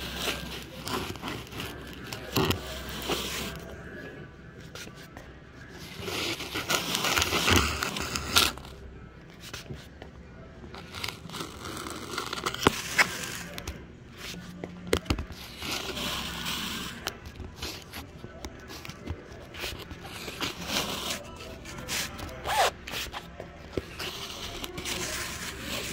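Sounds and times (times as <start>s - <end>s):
rustling and scraping handling noise: 0.0s - 25.9s.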